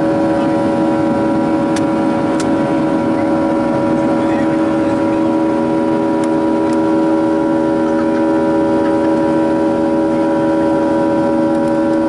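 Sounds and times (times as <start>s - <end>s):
jet engines in cabin: 0.0s - 12.0s.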